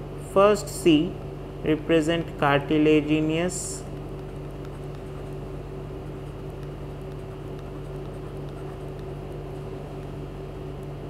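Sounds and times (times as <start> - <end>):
low background hum with tones: 0.0 - 11.0.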